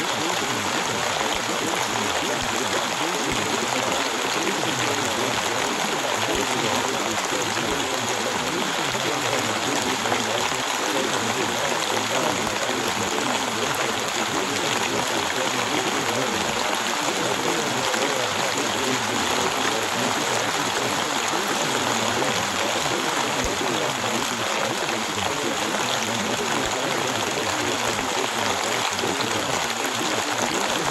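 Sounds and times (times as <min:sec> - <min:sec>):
steady rainfall: 0:00.0 - 0:30.9.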